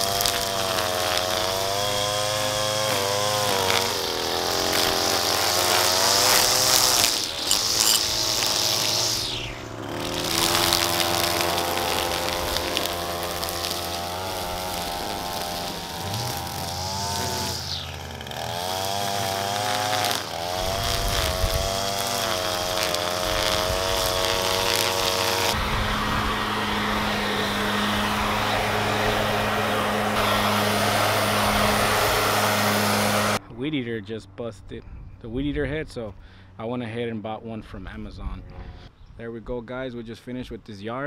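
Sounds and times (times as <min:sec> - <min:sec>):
leaf blower running: 0:00.0 - 0:33.4
string trimmer engine running: 0:00.0 - 0:33.4.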